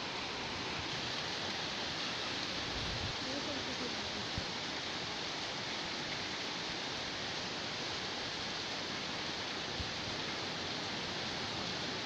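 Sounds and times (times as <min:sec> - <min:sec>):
heavy rain on flooded street: 0:00.0 - 0:12.0.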